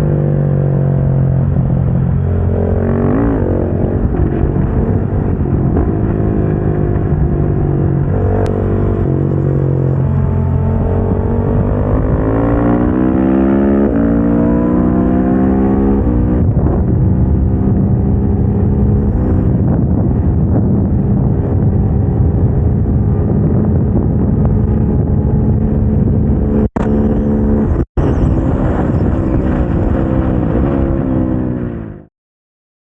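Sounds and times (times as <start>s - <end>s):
motorcycle engine accelerating hard: 0.0s - 32.1s.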